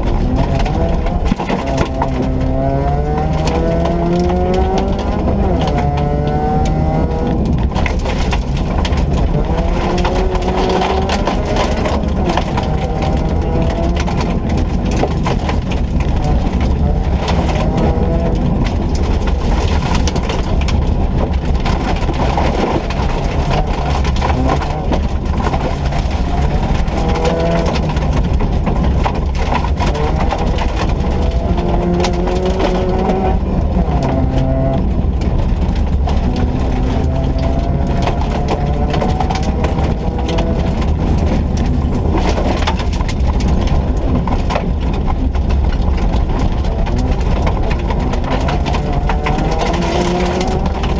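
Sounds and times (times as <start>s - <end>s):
rally car engine accelerating: 0.0s - 50.9s
road and tyre noise: 0.0s - 50.9s.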